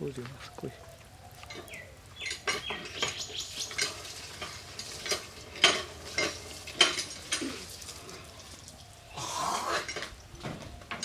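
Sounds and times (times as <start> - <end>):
embers crackling and popping: 0.0 - 11.0.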